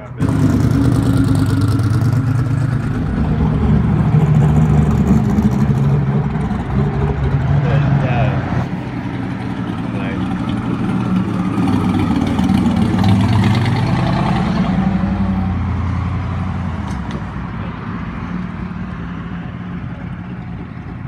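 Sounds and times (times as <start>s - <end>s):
car engine driving past: 0.2s - 17.4s.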